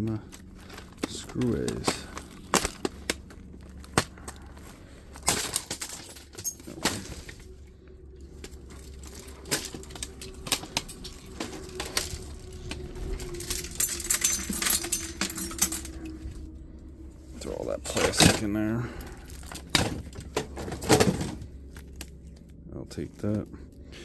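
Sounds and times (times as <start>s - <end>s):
small parts clicking and clattering: 0.0s - 16.6s, 17.4s - 23.9s
faint steady hum: 0.0s - 24.0s.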